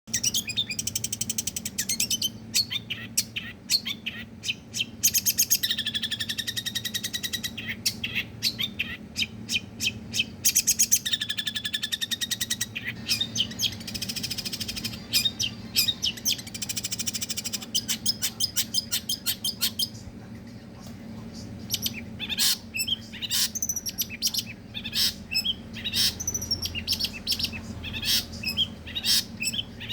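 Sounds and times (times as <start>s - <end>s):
bird singing sharp trills: 0.1s - 19.9s, 21.7s - 29.9s
low steady hum: 0.1s - 29.9s.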